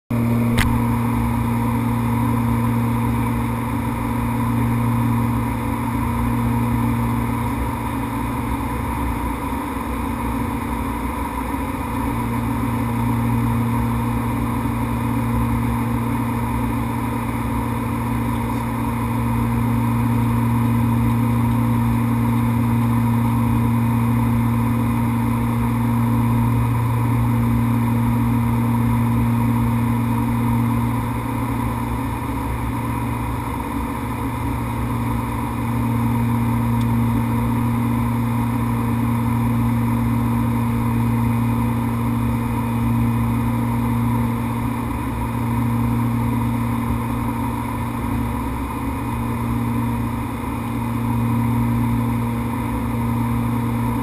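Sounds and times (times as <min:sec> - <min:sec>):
high engine whine: 0:00.0 - 0:54.0
propeller engines droning: 0:00.1 - 0:54.0.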